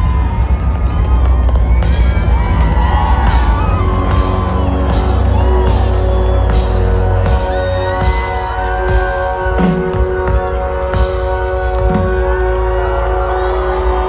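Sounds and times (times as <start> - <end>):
fans shouting and whooping: 0.0 - 14.0
live rock band playing: 1.8 - 13.2.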